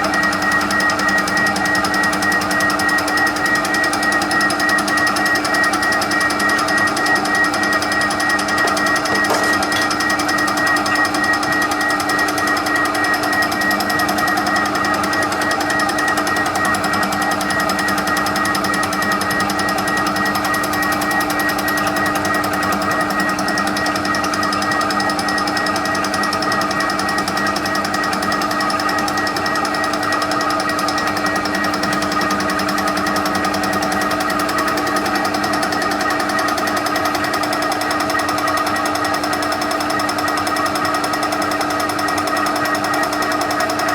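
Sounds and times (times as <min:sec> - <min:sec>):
fast tapping of cutter: 0:00.0 - 0:43.9
milling machine running: 0:00.0 - 0:43.9.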